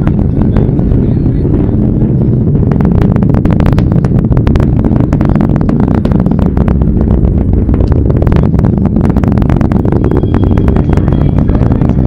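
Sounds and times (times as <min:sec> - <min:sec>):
deep rocket launch rumble: 0:00.0 - 0:12.0
sharp crackles of rocket exhaust: 0:00.0 - 0:12.0.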